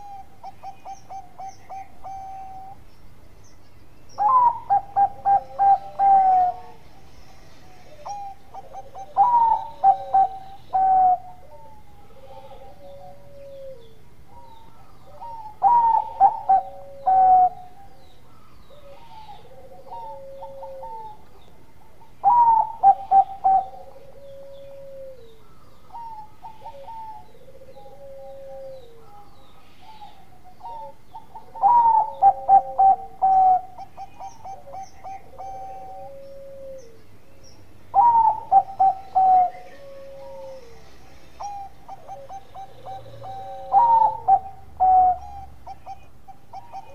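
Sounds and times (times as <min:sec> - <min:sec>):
dove rolling coos: 0:00.0 - 0:02.8, 0:04.2 - 0:37.2, 0:37.9 - 0:46.9
soft gliding coo notes: 0:00.0 - 0:02.9, 0:04.2 - 0:37.3, 0:37.9 - 0:46.9.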